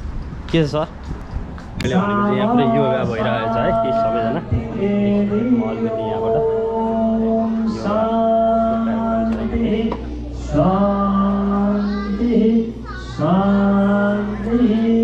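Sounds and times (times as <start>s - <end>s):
voices chanting in unison: 1.8s - 15.0s.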